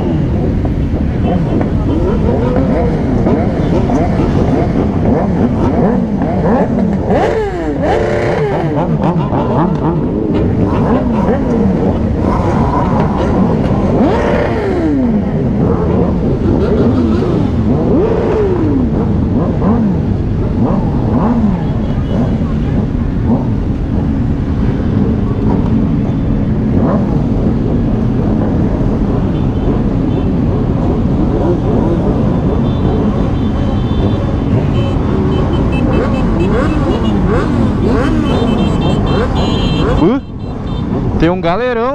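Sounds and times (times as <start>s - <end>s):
motorcycle engines revving: 0.0s - 41.9s
road noise: 0.0s - 41.9s.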